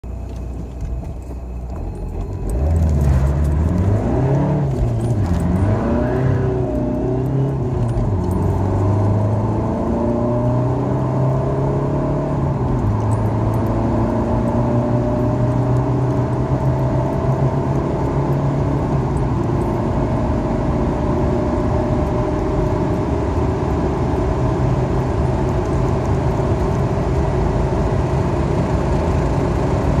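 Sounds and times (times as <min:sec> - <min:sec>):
car engine accelerating hard: 0:00.3 - 0:30.0.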